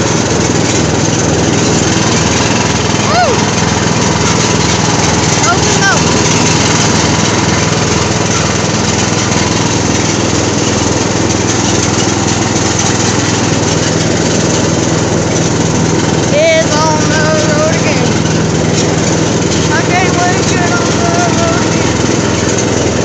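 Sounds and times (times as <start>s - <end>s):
lawn mower engine droning: 0.0s - 23.0s.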